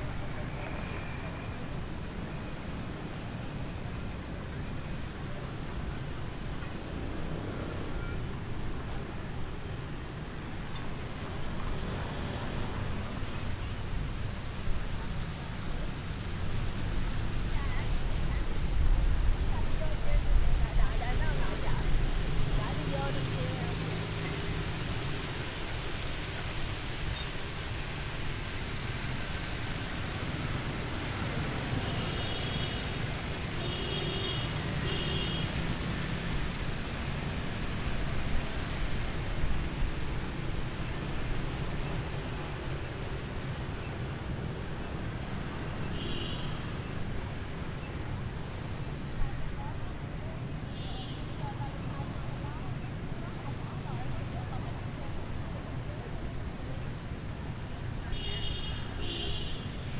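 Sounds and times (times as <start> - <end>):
constant hiss of noise: 0.0 - 59.9
fountain splashing: 0.0 - 59.9
low traffic rumble: 0.0 - 59.9.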